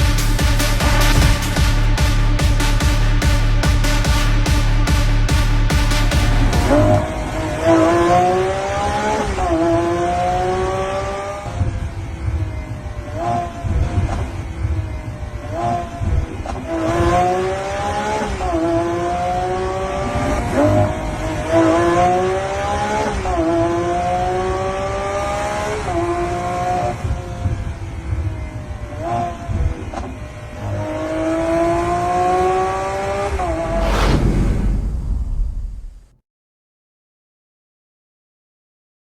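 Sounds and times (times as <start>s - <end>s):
sports car engine revving: 0.0s - 34.0s.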